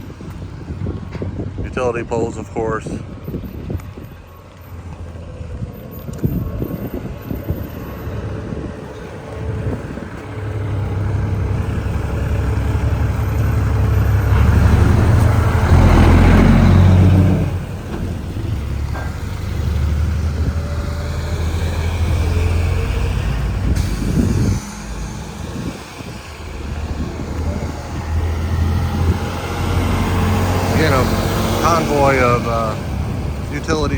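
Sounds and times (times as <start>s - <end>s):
truck engines driving past: 0.0s - 33.9s.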